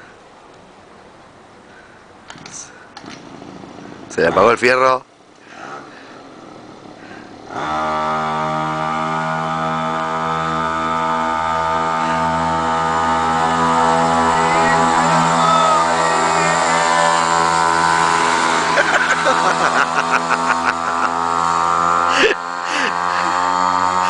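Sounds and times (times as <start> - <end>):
small engine starting and running: 2.4 - 4.4, 5.5 - 24.0.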